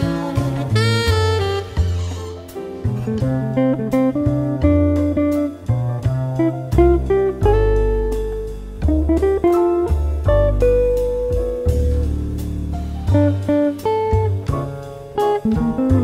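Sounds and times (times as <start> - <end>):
deep sustained bass notes: 0.0 - 16.0
plucked melody: 0.0 - 16.0.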